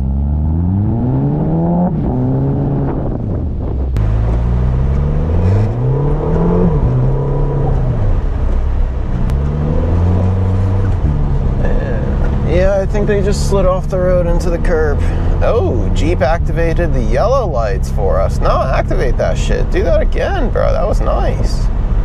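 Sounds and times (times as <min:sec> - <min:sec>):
car engine revving: 0:00.0 - 0:22.0
road rumble: 0:00.0 - 0:22.0.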